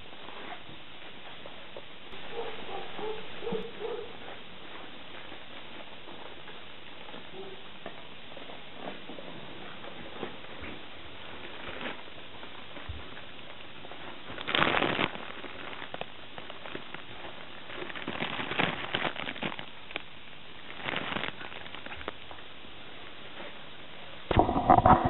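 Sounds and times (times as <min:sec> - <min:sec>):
fabric play tunnel crinkling: 0:00.0 - 0:25.0.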